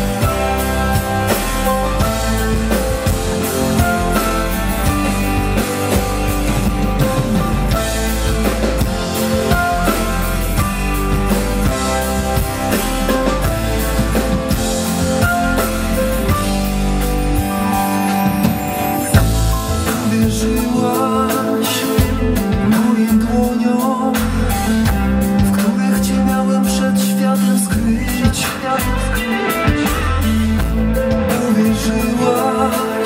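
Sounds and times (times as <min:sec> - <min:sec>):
amplified pop-rock music: 0:00.0 - 0:33.0.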